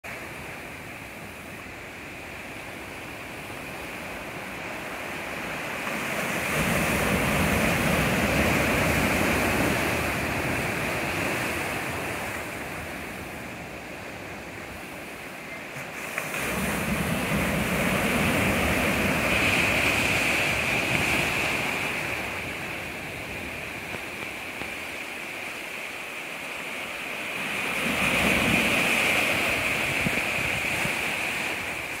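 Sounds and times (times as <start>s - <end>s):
waves breaking on stony beach: 0.1s - 32.0s.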